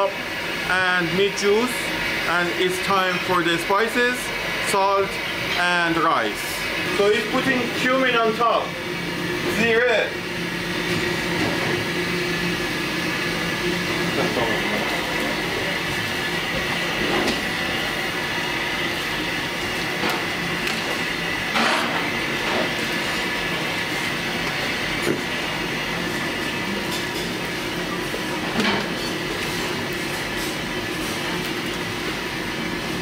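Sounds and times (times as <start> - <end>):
kitchen equipment drone: 0.0 - 33.0.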